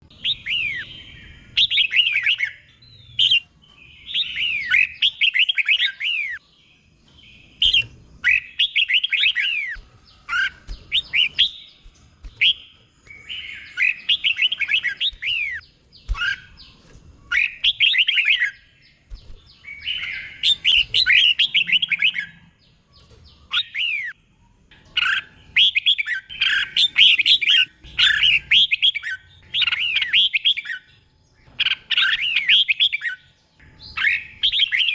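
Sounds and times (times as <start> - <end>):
bulbul singing: 0.0 - 34.9.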